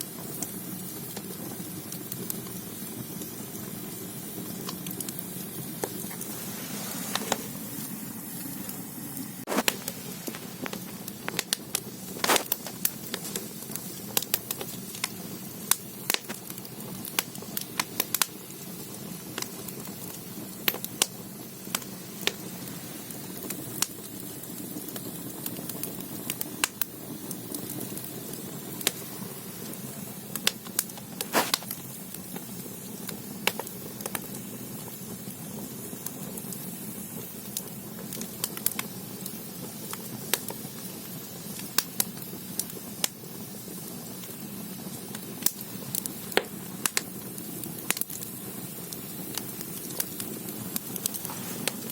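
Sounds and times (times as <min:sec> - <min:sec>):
firewood fire crackling: 0:00.0 - 0:51.9.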